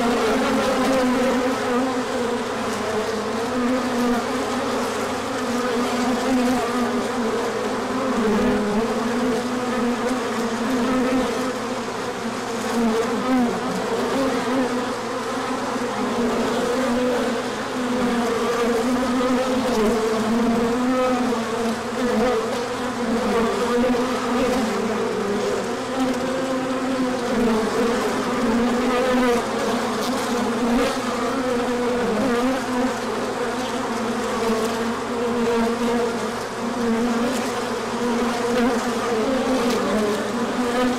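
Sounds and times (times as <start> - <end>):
honey bees buzzing: 0.0 - 40.9.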